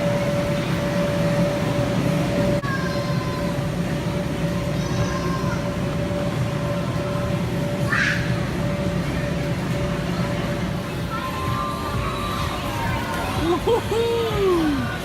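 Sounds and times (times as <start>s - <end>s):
bounce house blowers droning: 0.0s - 15.0s
faint children's voices: 0.0s - 15.0s.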